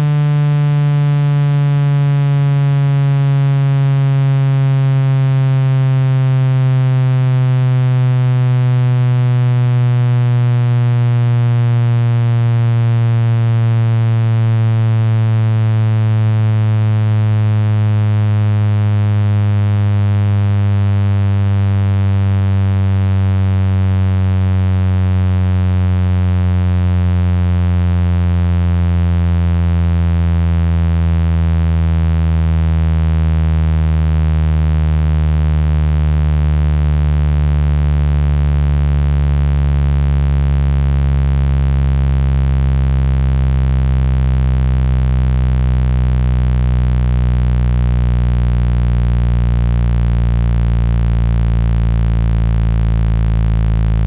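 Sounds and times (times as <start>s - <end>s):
deep hum: 0.0s - 54.0s
low buzzy falling tone: 0.0s - 54.0s.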